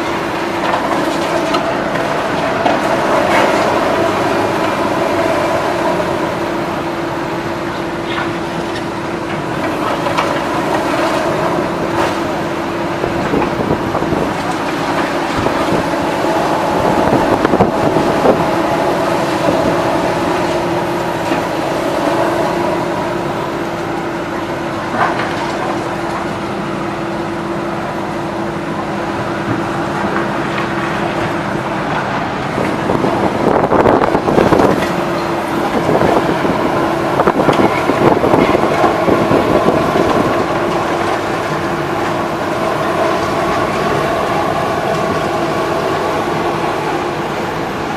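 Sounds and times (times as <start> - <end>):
demolition machinery whine: 0.0 - 47.9.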